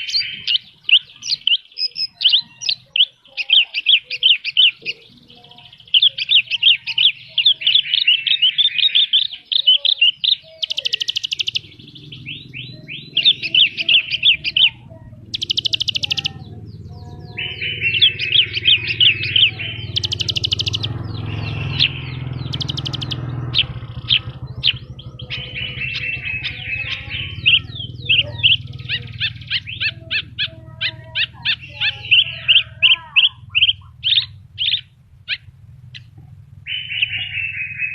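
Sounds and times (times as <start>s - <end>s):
lark singing: 0.0s - 37.9s
high buzzy bird rattles: 5.8s - 37.1s.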